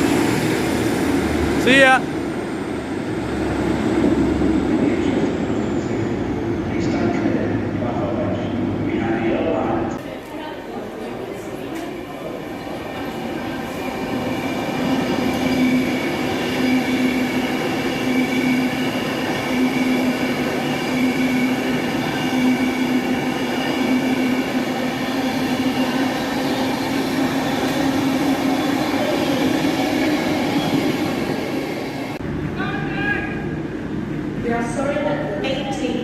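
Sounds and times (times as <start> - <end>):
train passing through station: 0.0 - 36.0.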